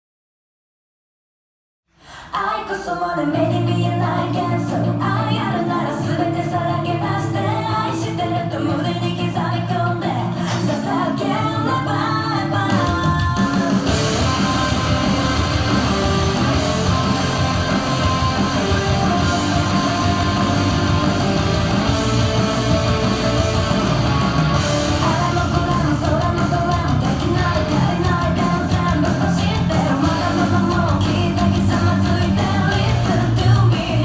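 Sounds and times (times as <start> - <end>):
loud rock song with singing: 2.4 - 34.0.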